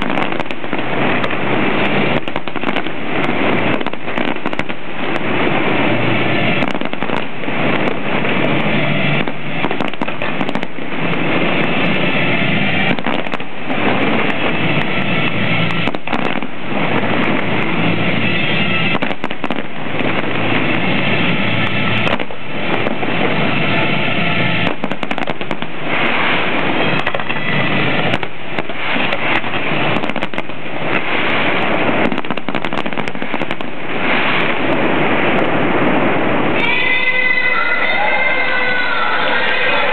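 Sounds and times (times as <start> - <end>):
firework shells bursting: 0.0 - 37.7.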